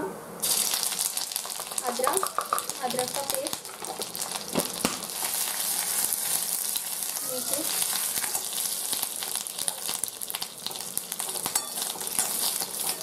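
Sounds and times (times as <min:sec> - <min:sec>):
spices sizzling in hot oil: 0:00.4 - 0:13.0.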